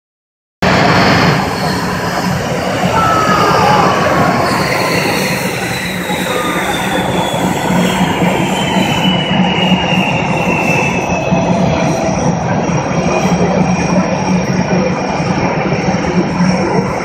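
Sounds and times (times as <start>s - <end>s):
jet engines rumbling and whining: 0.6s - 17.0s.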